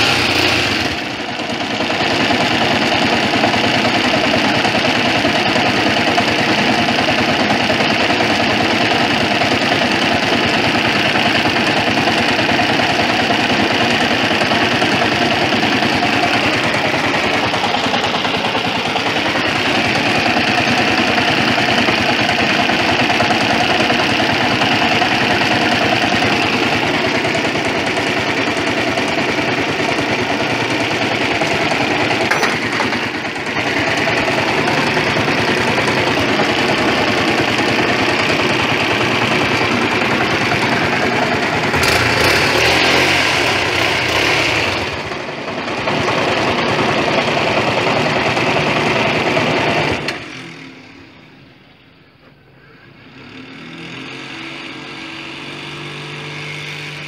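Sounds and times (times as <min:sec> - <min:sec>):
engine idling: 0:00.0 - 0:53.8.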